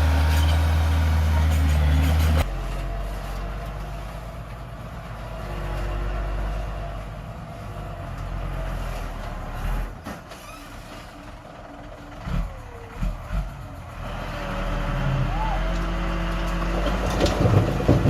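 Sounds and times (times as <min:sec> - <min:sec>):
heavy diesel engine rumbling: 0:00.0 - 0:18.0.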